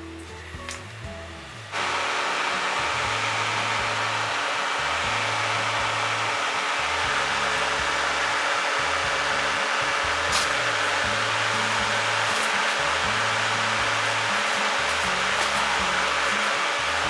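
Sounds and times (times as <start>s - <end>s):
air conditioning fan blowing: 0.0s - 17.0s.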